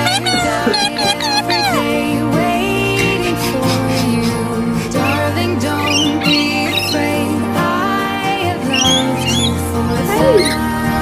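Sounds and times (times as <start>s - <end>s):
instrumental music with sustained chords: 0.0s - 11.0s.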